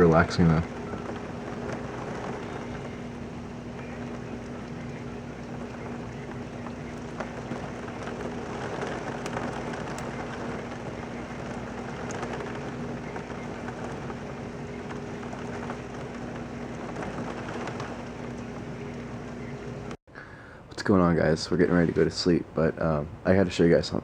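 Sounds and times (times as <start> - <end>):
heavy rain pouring: 0.0 - 20.0
rain drops ticking on window: 0.0 - 20.0
strong wind: 0.0 - 20.0
steady hum: 0.0 - 24.0.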